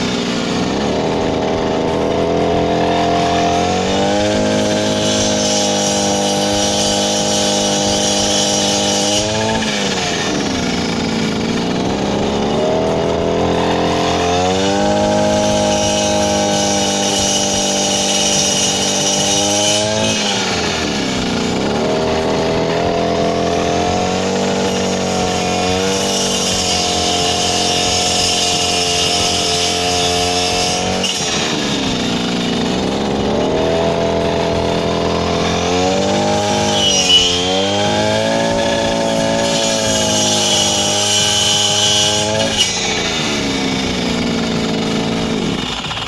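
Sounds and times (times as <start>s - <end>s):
brush cutter sawing branches: 0.0s - 46.0s.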